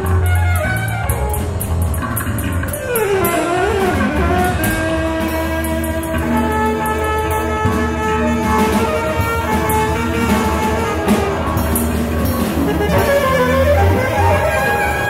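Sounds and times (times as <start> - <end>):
electric bass: 0.0 - 15.0
held melodic tones: 0.0 - 15.0.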